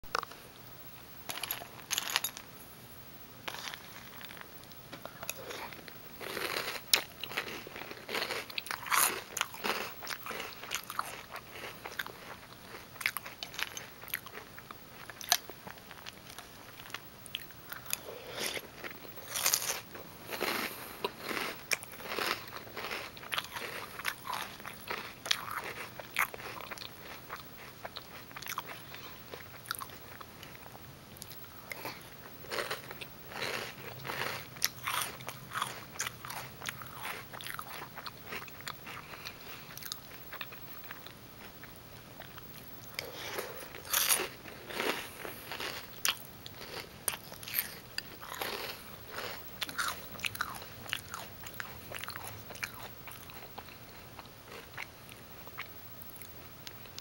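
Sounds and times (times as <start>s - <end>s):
person chewing crunchy cereal: 1.3s - 2.4s, 3.4s - 56.3s.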